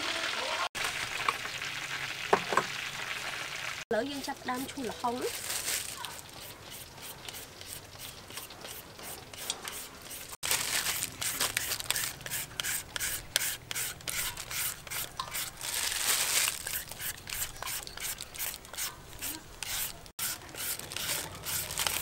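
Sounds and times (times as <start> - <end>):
peeler scraping papaya: 4.1 - 22.0.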